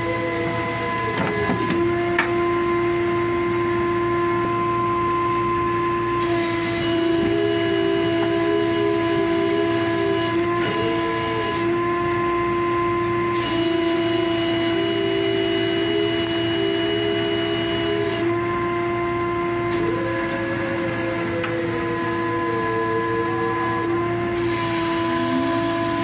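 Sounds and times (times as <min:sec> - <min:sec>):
higher wavering tone: 0:00.0 - 0:26.0
machinery whining drone: 0:00.0 - 0:26.0.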